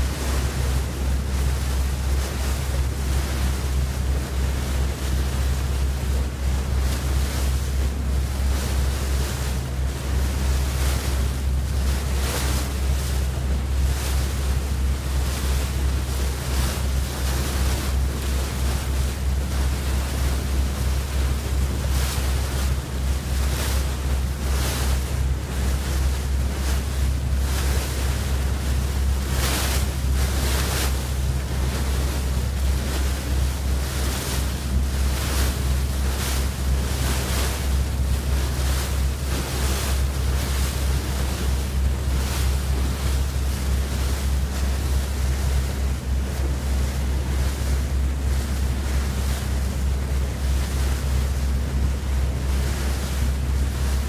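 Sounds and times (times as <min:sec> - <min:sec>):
boat engine drone: 0:00.0 - 0:54.0
water rushing past hull: 0:00.0 - 0:54.0.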